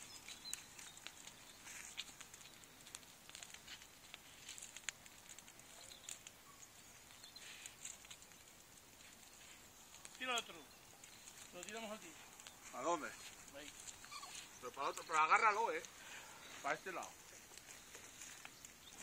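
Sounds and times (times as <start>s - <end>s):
faint crackles and ticks: 0.0s - 19.0s.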